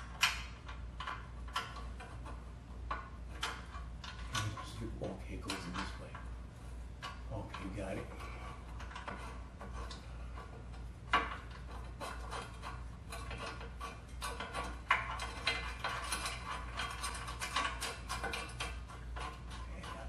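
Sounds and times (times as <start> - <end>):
metal clicks and scraping: 0.0 - 6.3, 7.0 - 20.0.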